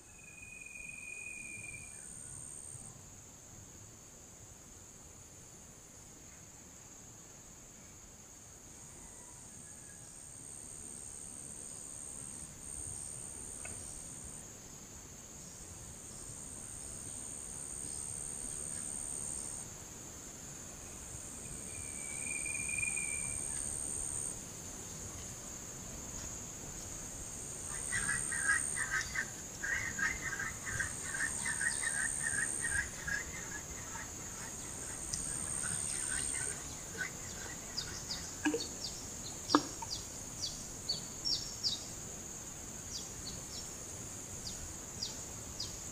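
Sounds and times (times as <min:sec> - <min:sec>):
insects buzzing and chirping: 0:00.0 - 0:45.9.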